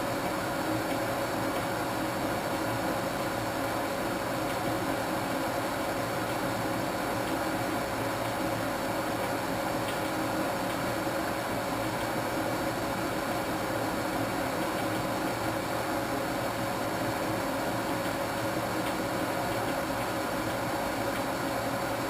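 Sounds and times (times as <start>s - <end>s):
washing machine running: 0.0s - 22.0s.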